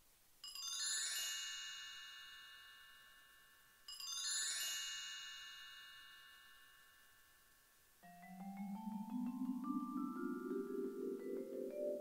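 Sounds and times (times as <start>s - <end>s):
high bell-like chime: 0.4s - 12.0s.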